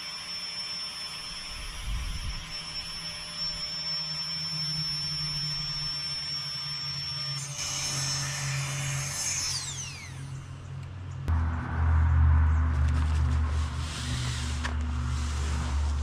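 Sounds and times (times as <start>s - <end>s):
electric air pump whining: 0.0s - 10.6s, 12.9s - 16.0s.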